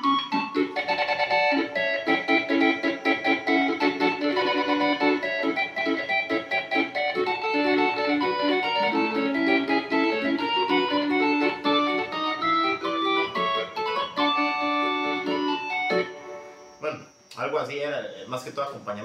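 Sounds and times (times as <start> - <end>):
combo organ chords with reverb: 0.0 - 17.2.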